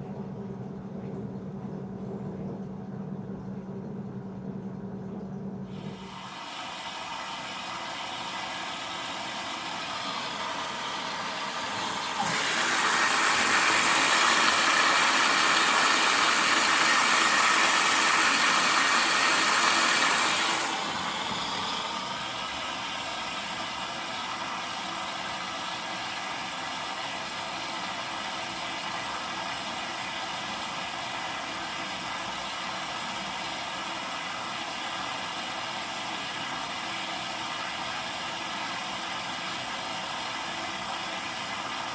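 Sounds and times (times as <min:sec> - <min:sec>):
washing machine motor hum: 0:00.0 - 0:41.9.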